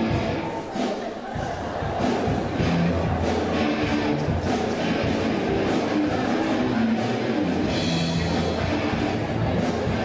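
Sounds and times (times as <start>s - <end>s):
loud rock music with drums: 0.0s - 10.0s.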